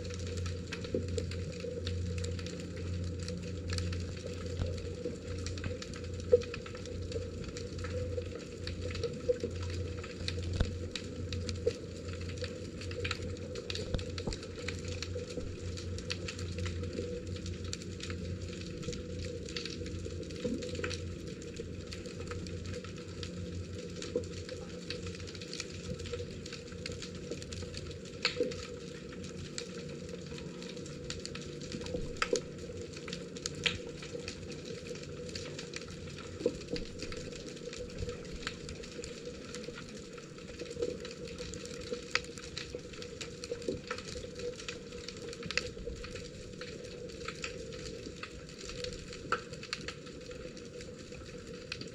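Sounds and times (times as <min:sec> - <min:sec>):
sharp crackling clicks: 0:00.0 - 0:51.9.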